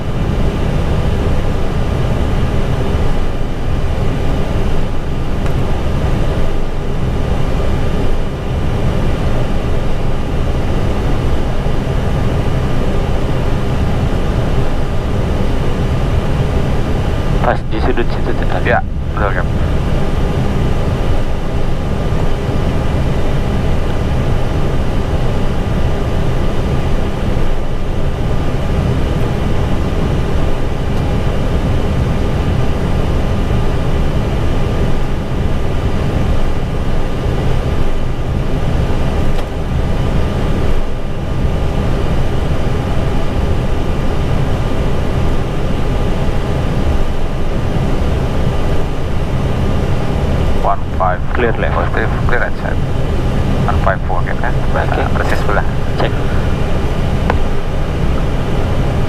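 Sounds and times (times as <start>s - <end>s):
faint steady whines: 0.0s - 59.0s
jet engines idling low rumble: 0.0s - 59.0s.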